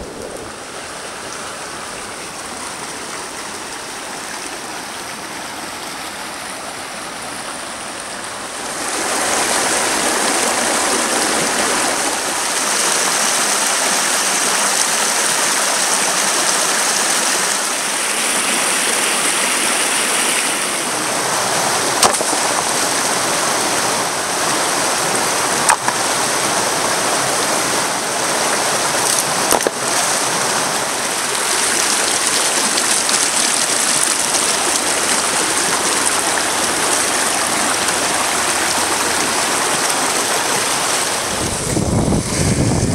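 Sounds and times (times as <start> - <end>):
creek rushing over stones: 0.0 - 42.9.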